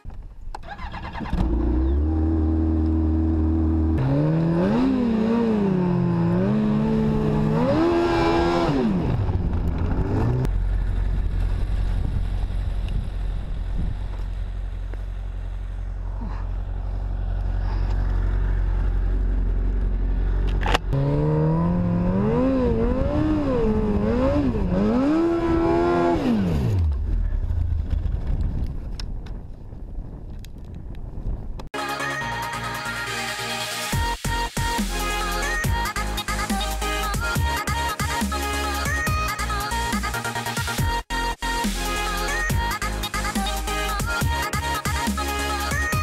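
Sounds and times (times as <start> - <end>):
steady bass: 1.4 - 28.6, 34.0 - 46.0.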